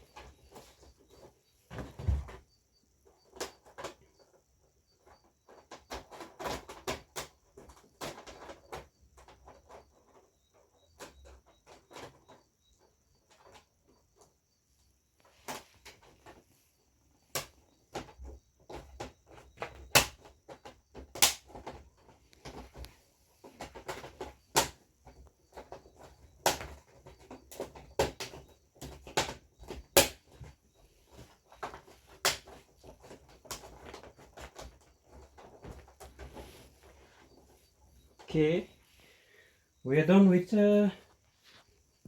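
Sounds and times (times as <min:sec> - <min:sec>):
soft handling noise: 0:07.6 - 0:42.0.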